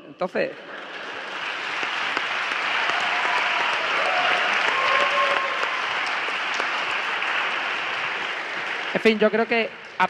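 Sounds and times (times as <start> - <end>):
audience clapping: 0.4 - 10.0.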